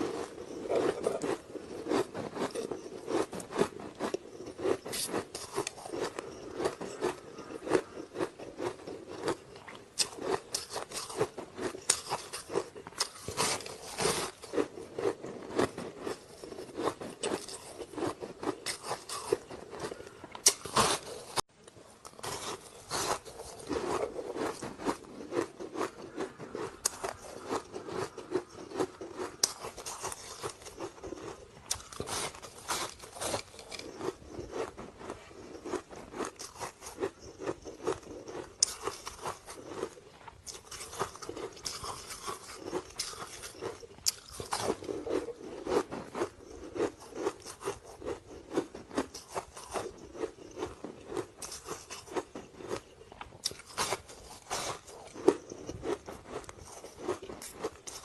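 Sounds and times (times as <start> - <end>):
ice being bitten and chewed: 0.0 - 58.0.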